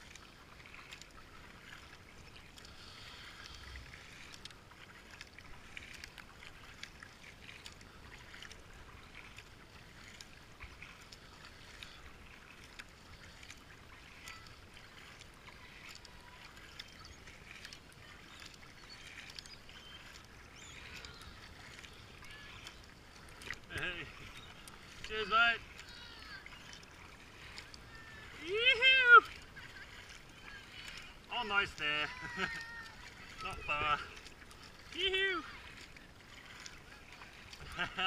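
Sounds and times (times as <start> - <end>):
paddle splashing in water: 0.0 - 38.0.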